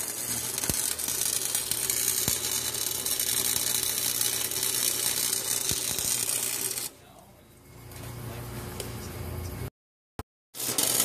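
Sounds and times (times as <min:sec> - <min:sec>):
arc welder crackling: 0:00.0 - 0:09.6, 0:10.6 - 0:11.0.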